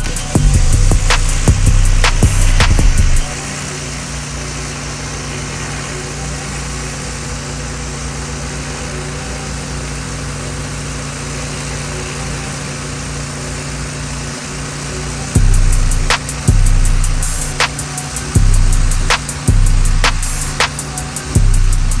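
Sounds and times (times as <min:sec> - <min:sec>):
small gas engine running: 0:00.0 - 0:22.0
water spray hissing: 0:00.0 - 0:22.0.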